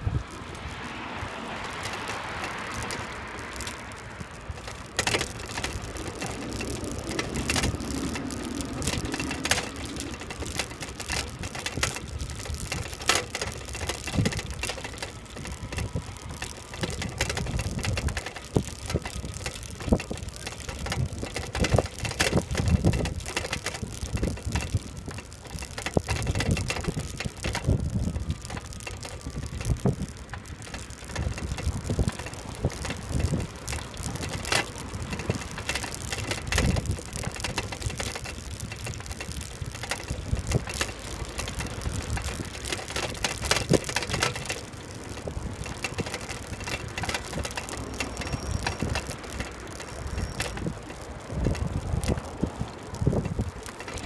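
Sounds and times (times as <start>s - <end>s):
bicycle frame rattling: 0.0s - 54.0s
wind rumbling on microphone: 0.0s - 54.0s.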